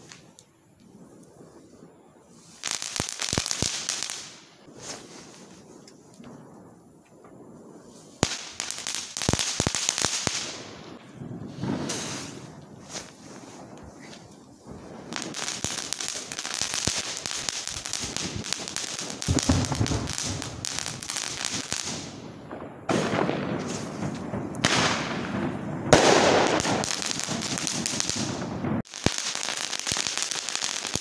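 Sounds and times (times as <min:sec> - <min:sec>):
firework hissing and crackling: 0:00.0 - 0:31.0.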